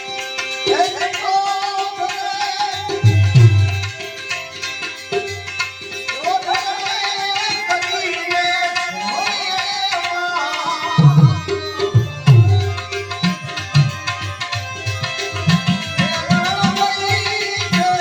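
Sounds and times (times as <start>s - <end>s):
tabla playing: 0.0s - 18.0s.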